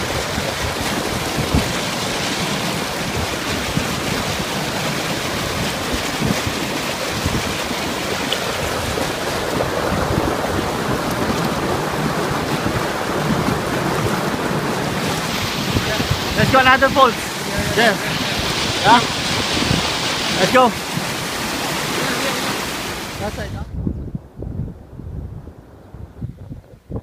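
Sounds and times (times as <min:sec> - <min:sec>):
stream water rushing over rocks: 0:00.0 - 0:23.6.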